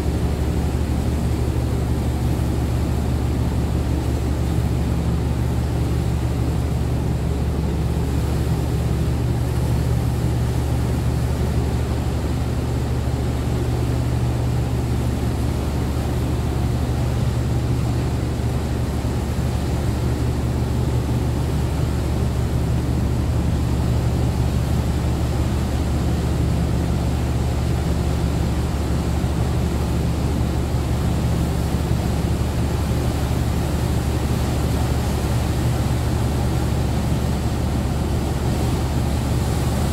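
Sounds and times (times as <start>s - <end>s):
water churning: 0.0s - 39.9s.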